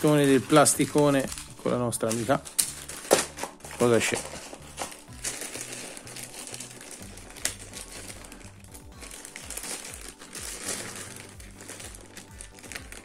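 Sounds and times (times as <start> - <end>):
background music with bass: 0.0 - 13.0
plastic bags crinkling: 0.0 - 13.0.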